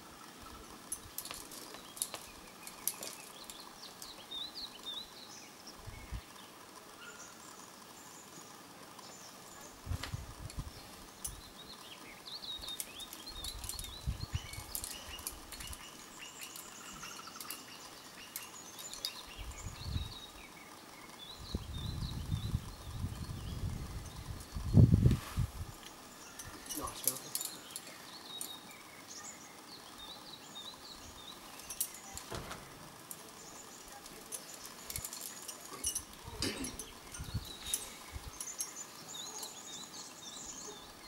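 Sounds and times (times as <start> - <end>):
birds chirping: 0.0 - 25.1, 25.7 - 41.0.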